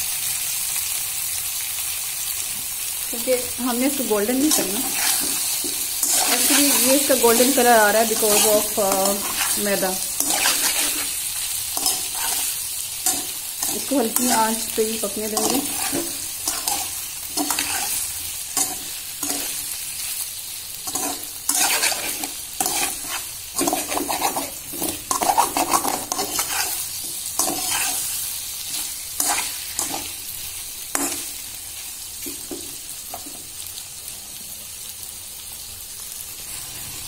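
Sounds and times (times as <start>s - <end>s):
chicken sizzling in oil: 0.0s - 37.0s
metal spatula scraping wok: 3.6s - 20.2s, 20.8s - 33.4s, 36.4s - 37.0s.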